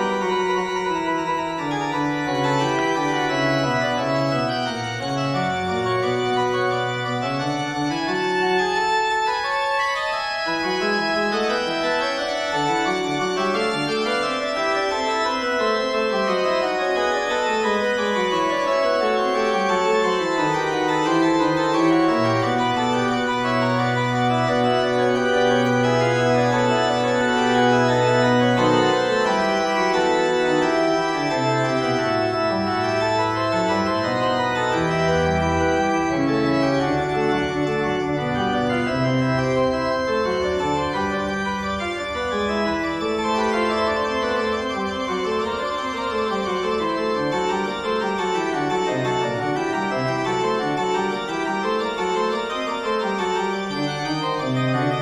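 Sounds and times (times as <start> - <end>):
organ music: 0.0 - 55.0.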